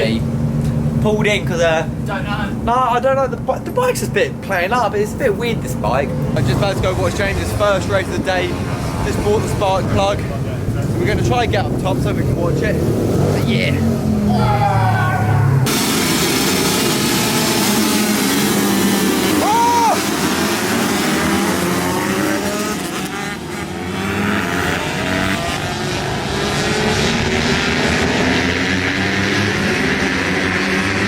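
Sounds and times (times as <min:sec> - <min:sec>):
pit bike engines revving: 0:00.0 - 0:31.0.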